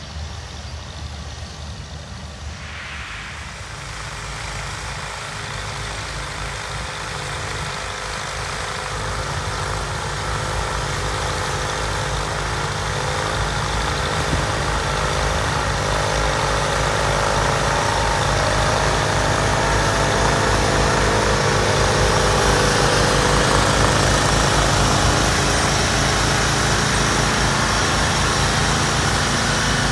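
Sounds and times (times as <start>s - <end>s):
tractor engines running under load: 0.0s - 2.5s, 3.9s - 29.9s.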